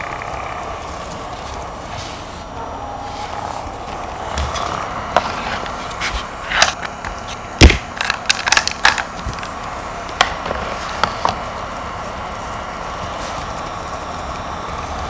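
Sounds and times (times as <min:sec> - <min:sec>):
desk fan whirring: 0:00.0 - 0:15.0.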